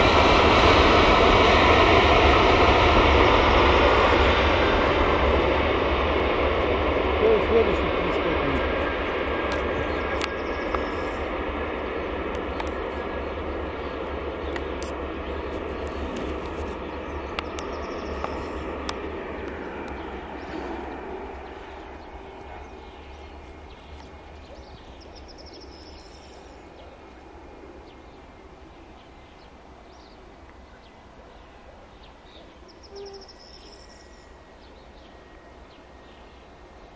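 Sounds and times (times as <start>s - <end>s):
jet engines winding down: 0.0s - 30.2s
distant engine noise: 0.0s - 36.9s
birds chirping: 4.7s - 36.9s.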